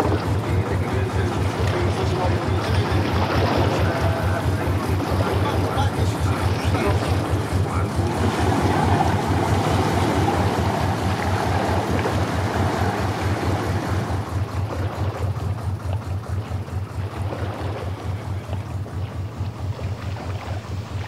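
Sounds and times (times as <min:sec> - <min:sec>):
boat engine idling: 0:00.0 - 0:21.0
water noise: 0:00.0 - 0:21.0.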